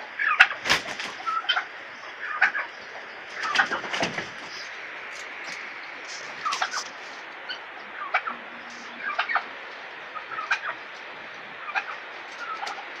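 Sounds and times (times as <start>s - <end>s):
chickens clucking: 0.0s - 13.0s
steady hiss: 0.0s - 13.0s.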